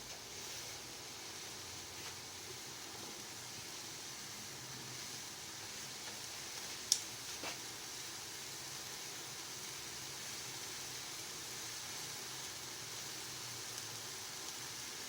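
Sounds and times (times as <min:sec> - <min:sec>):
pot boiling hiss: 0:00.0 - 0:15.0.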